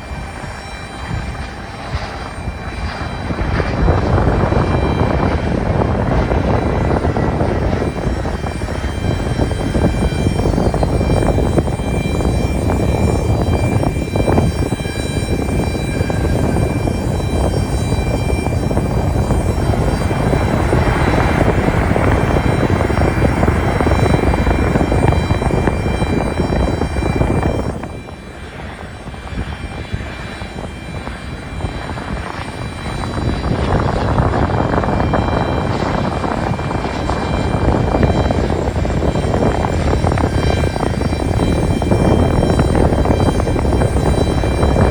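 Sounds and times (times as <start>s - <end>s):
jet engines rumbling and whining: 0.0s - 44.9s.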